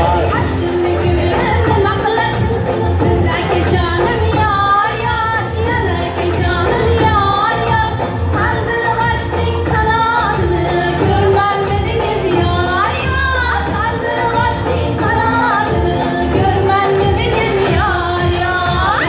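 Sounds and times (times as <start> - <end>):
amplified backing music with beat: 0.0 - 19.0
woman singing into a microphone: 0.0 - 19.0.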